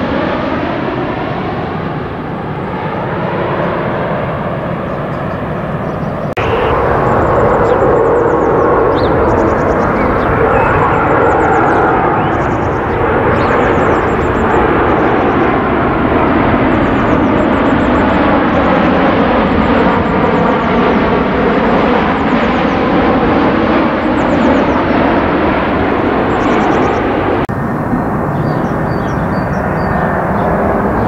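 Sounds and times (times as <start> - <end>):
jet airliner flying past: 0.0 - 31.0.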